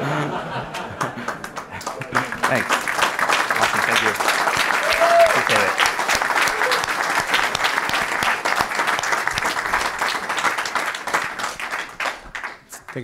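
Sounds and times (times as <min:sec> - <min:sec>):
audience applauding: 0:00.5 - 0:13.0.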